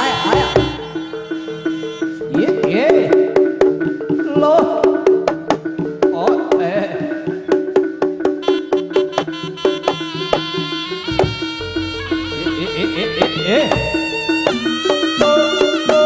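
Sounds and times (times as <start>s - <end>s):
melody sliding in pitch: 0.0s - 5.0s, 7.1s - 16.0s
hand drums and percussion: 0.0s - 16.0s
repeating pitched notes: 0.0s - 16.0s.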